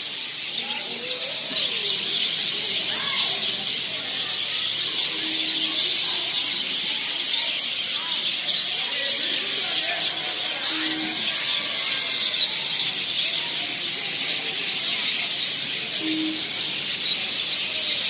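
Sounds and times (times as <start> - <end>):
chorus of birds chirping: 0.0 - 18.0
louder bird calls: 0.0 - 18.0.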